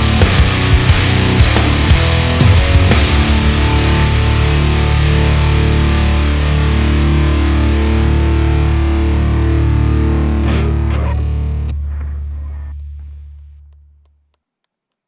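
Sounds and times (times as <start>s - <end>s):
distorted electric guitar chord: 0.0s - 13.0s
steady low note: 0.0s - 13.7s.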